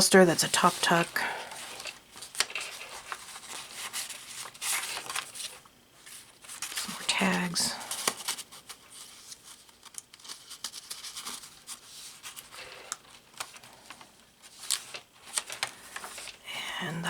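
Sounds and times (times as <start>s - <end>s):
paper rustling and crinkling: 0.0s - 16.4s.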